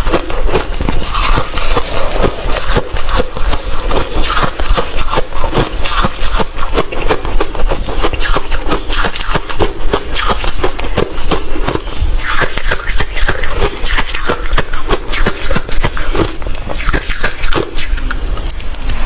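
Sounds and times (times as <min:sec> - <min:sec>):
ice crunching being chewed: 0:00.0 - 0:19.0.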